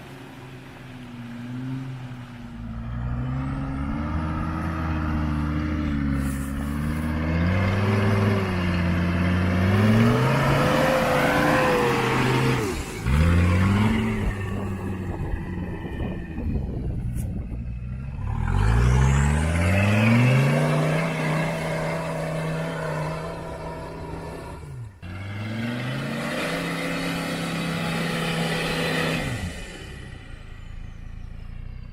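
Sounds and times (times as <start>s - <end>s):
engine revving under load: 1.3s - 31.9s.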